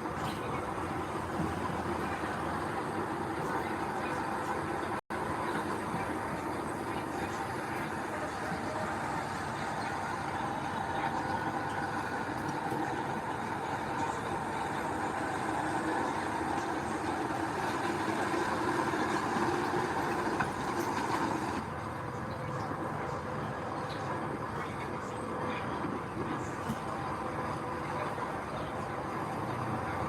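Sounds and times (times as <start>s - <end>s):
diesel machinery running: 0.0s - 30.0s.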